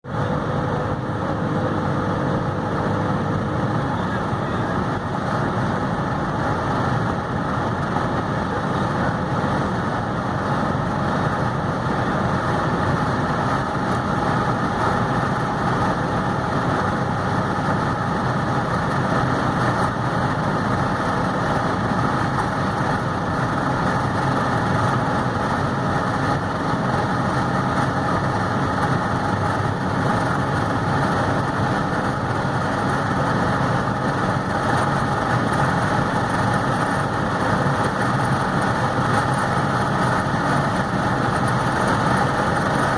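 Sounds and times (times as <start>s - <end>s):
car engine driving: 0.0s - 42.9s.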